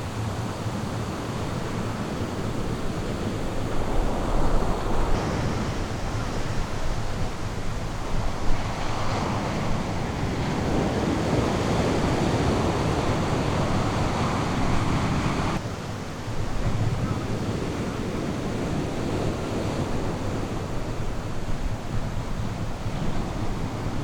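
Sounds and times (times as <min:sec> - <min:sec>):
ocean surf washing onto beach: 0:00.0 - 0:24.0
wind rumble on microphone: 0:00.0 - 0:24.0.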